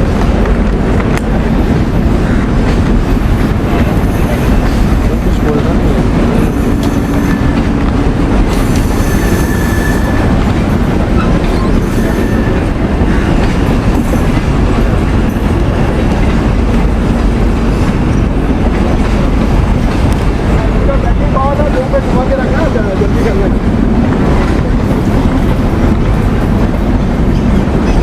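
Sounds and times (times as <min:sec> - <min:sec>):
train wheels clattering over rail joints: 0:00.0 - 0:20.6, 0:22.4 - 0:28.0.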